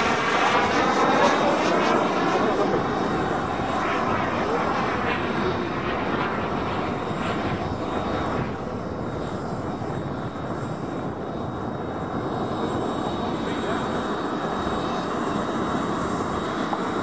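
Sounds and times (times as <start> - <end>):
model jet turbine rushing: 0.0 - 17.0.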